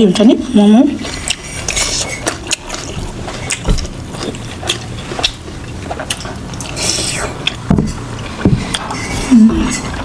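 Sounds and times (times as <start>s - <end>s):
crunchy chewing: 1.0s - 10.0s.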